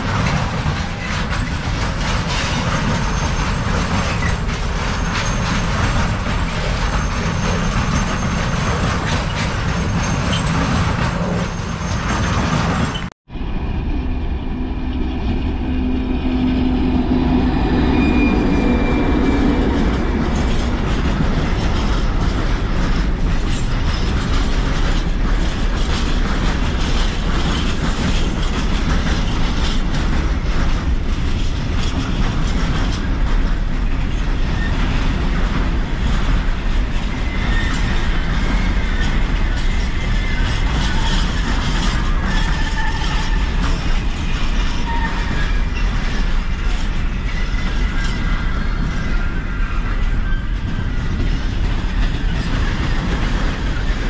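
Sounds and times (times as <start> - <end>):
train wheels clattering over rail joints: 0.0 - 13.1, 18.9 - 54.0.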